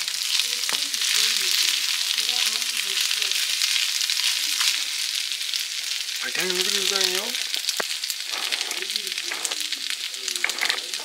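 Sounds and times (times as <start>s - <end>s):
rice sizzling in a frying pan: 0.0s - 11.0s
spatula stirring: 0.0s - 11.0s.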